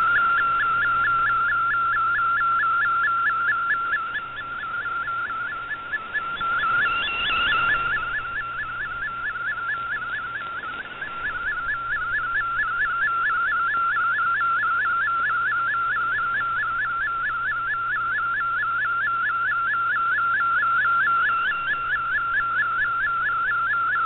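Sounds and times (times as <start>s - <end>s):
warbling tone with upward chirp: 0.0s - 18.8s, 20.6s - 23.5s.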